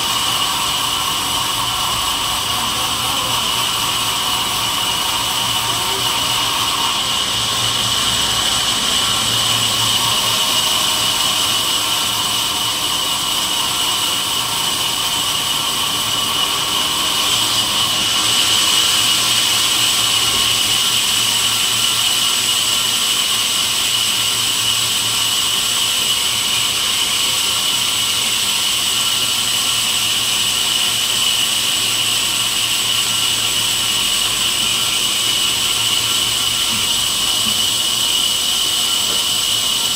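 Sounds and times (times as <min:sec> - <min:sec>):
band saw whining: 0:00.0 - 0:39.9.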